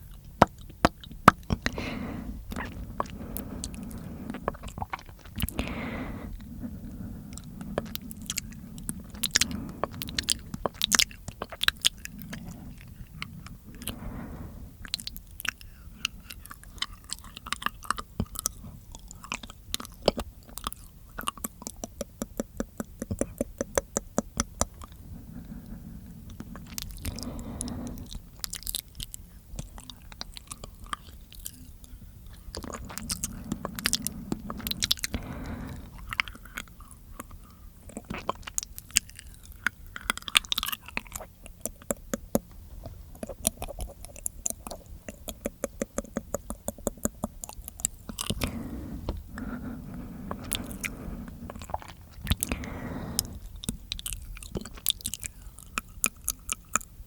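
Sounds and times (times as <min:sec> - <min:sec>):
wet mouth clicks and smacks: 0:00.1 - 0:05.8, 0:14.8 - 0:25.0, 0:26.3 - 0:49.4, 0:50.2 - 0:56.9.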